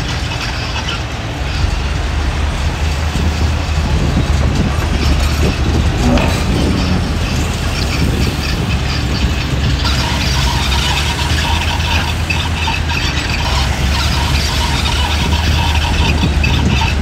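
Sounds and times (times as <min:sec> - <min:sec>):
diesel engine drone: 0:00.0 - 0:17.0
metallic squeaking and clatter: 0:00.0 - 0:17.0.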